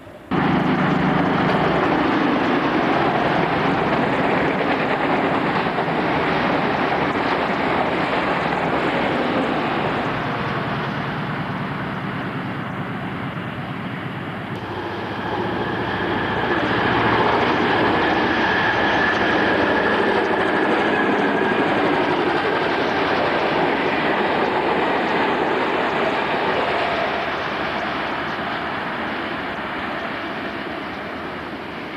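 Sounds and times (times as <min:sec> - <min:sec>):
high train whine: 0:00.0 - 0:31.9
train rumbling on rails: 0:00.0 - 0:31.9.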